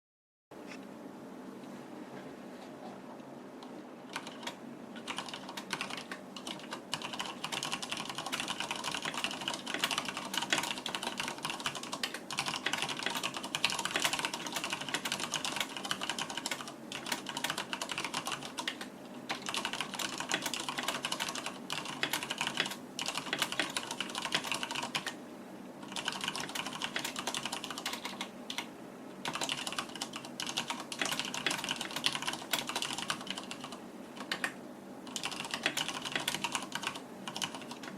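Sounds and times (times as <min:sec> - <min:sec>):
mechanical keyboard typing: 0:04.1 - 0:25.2, 0:25.8 - 0:37.9.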